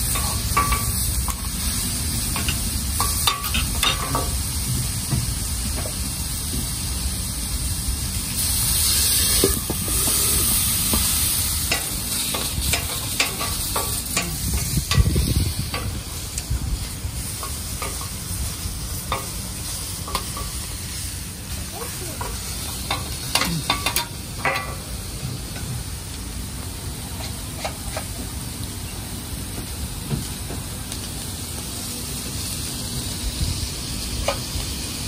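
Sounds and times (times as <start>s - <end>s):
meat sizzling on griddle: 0.0s - 35.0s
steam hissing: 0.0s - 35.0s.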